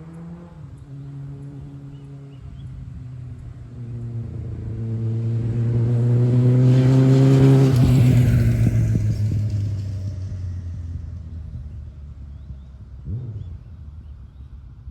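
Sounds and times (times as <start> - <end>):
motorcycle riding by: 0.0 - 13.8.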